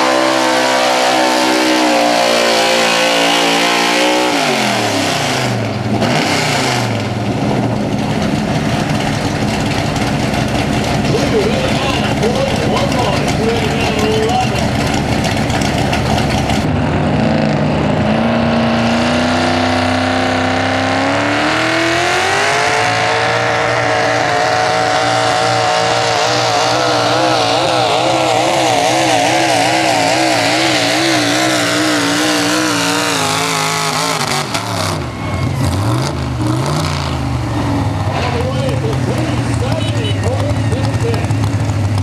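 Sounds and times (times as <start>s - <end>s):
truck engine at full throttle: 0.0s - 42.0s.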